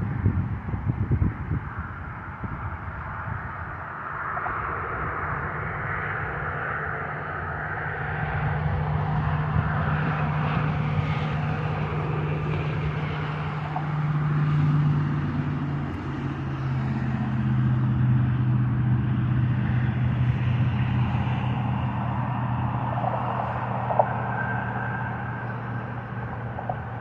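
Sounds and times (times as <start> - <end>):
motor vehicle humming: 0.0 - 27.0.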